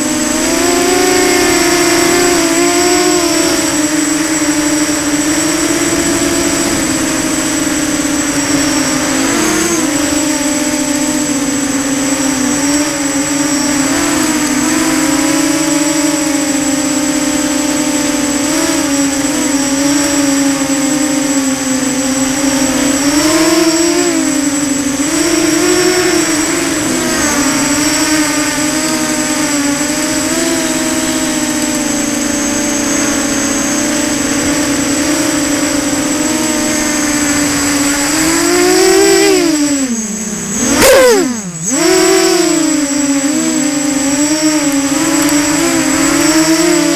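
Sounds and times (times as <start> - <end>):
electric motors buzzing whine: 0.0 - 46.9
faint high whine: 0.0 - 46.9.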